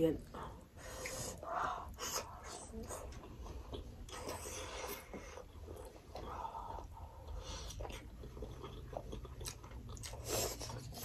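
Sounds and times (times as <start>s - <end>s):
people chewing food: 0.1s - 11.0s.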